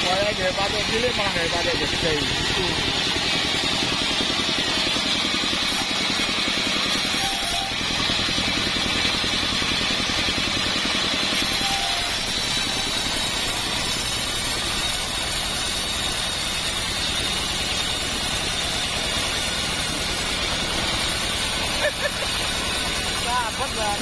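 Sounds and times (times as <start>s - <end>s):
band sawmill engine running: 0.0s - 24.0s.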